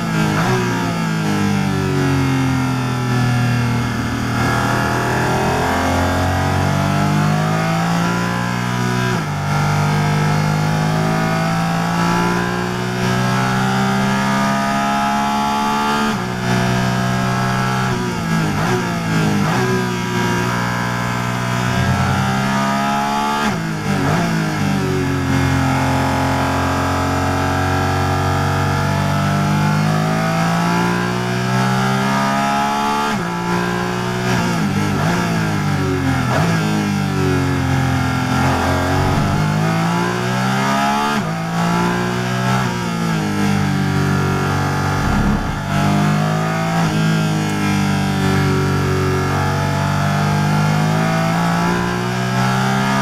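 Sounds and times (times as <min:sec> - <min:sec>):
racing engine revving hard: 0:01.4 - 0:53.0.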